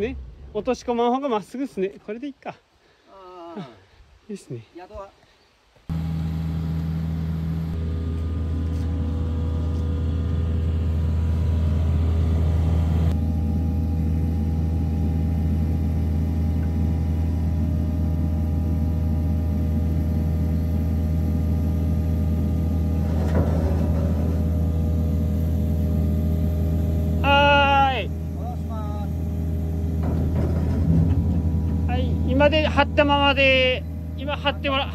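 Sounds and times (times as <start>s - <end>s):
diesel engine running: 5.9s - 34.9s.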